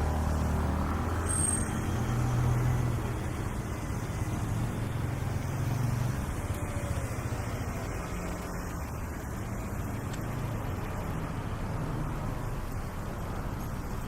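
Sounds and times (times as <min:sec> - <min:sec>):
street traffic: 0:00.0 - 0:14.0
vehicle engine humming: 0:00.0 - 0:14.0.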